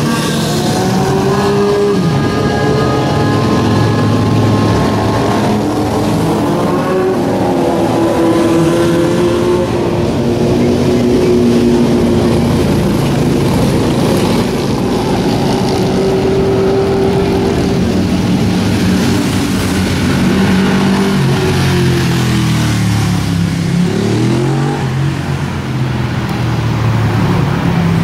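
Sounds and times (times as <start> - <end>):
engine revving: 0.0 - 28.0
motorcycles and cars passing: 0.0 - 28.0.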